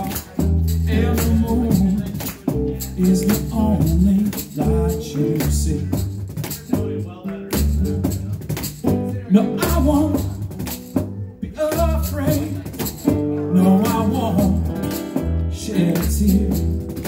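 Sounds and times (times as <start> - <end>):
man singing: 0.0 - 16.8.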